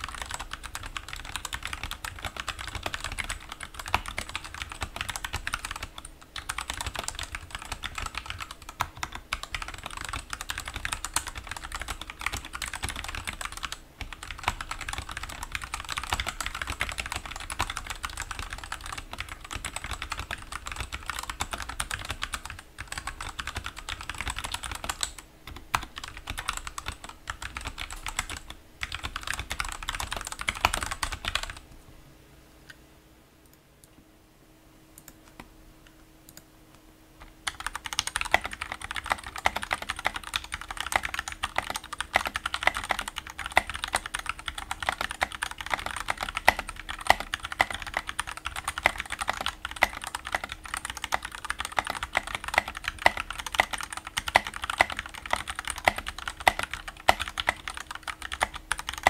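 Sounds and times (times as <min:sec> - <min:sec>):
mechanical keyboard typing: 0:00.0 - 0:31.6, 0:37.2 - 0:59.0.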